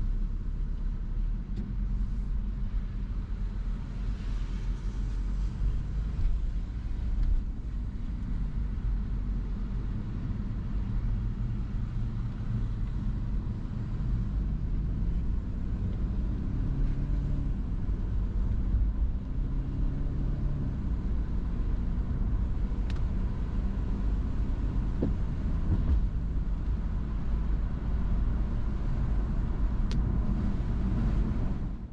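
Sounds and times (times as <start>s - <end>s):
car engine rumble: 0.0s - 31.9s
road noise: 0.0s - 31.9s.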